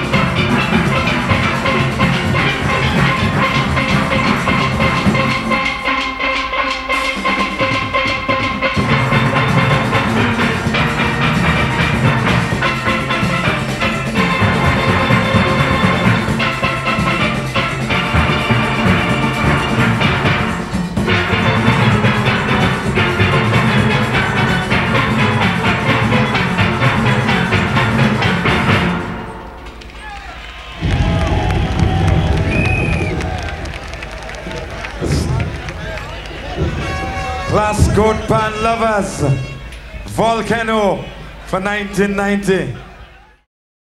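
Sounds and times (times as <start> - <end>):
steel pans playing: 0.0 - 41.4
drum and percussion rhythm: 0.0 - 41.5.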